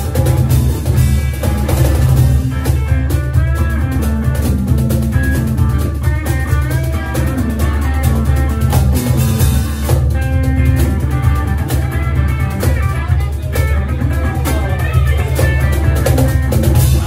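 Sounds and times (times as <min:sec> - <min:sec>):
cajon beat: 0:00.0 - 0:17.0
electric guitar lead with bent notes: 0:00.0 - 0:17.0.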